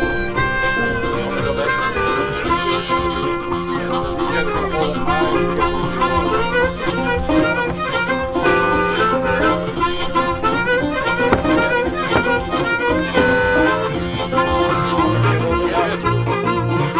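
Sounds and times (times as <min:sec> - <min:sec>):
harmonica-led background music: 0:00.0 - 0:16.9.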